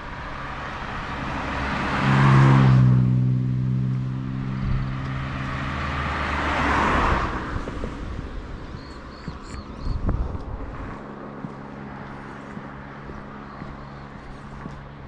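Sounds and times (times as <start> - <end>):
engine drone: 0.0 - 15.0
vehicles passing: 0.0 - 15.0.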